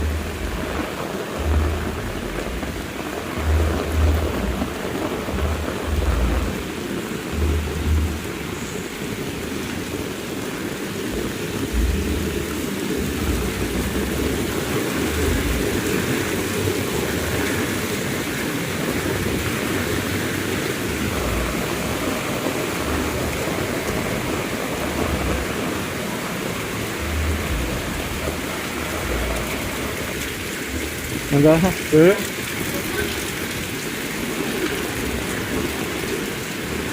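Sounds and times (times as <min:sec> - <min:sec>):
heavy rain falling: 0:00.0 - 0:36.9
low rumbles: 0:00.0 - 0:36.9.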